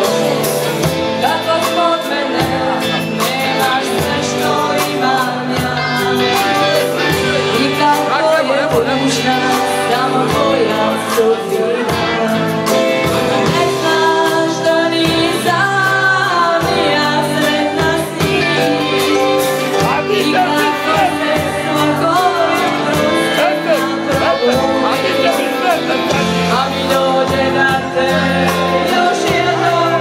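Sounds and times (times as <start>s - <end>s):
drums: 0.0s - 30.0s
electric guitar: 0.0s - 30.0s
woman singing into a microphone: 0.0s - 30.0s.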